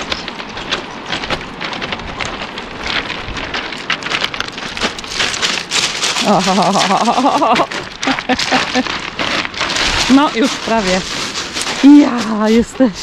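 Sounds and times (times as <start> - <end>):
footsteps crunching on pebbles: 0.0 - 13.0.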